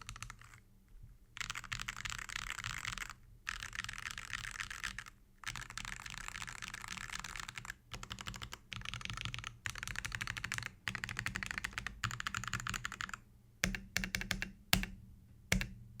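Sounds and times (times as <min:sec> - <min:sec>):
mechanical keyboard rapid typing: 0:00.0 - 0:00.6, 0:01.4 - 0:14.9.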